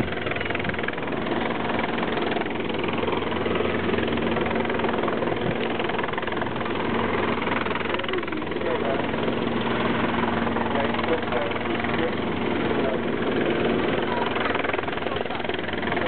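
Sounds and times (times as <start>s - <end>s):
helicopter rotor drone: 0.0s - 16.0s.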